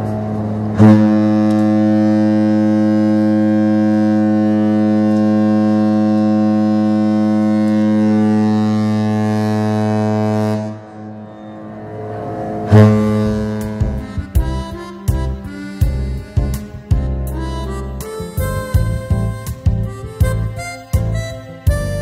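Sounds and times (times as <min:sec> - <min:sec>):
ship horn blast: 0:00.0 - 0:22.0.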